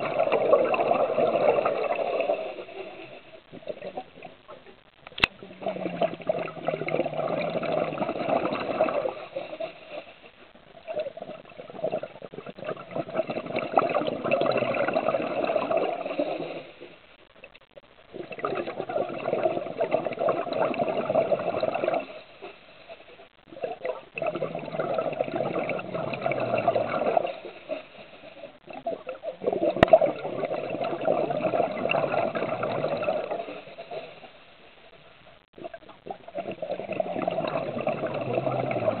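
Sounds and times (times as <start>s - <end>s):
regulator bubbling underwater: 0.0s - 39.0s.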